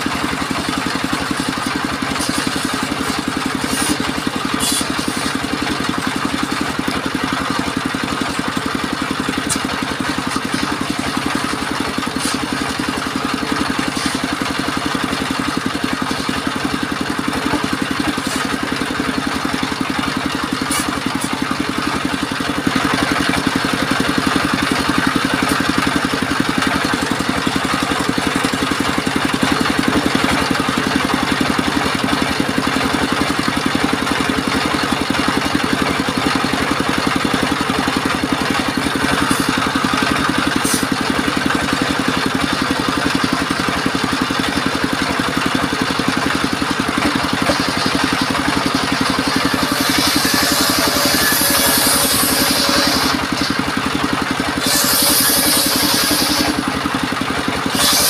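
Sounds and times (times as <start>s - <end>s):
circular sawmill running: 0.0s - 58.0s.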